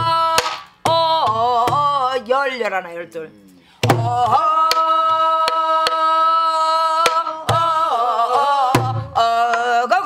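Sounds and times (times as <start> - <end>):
barrel drum beats: 0.0 - 2.2, 3.8 - 10.0
woman singing folk song: 0.0 - 10.0.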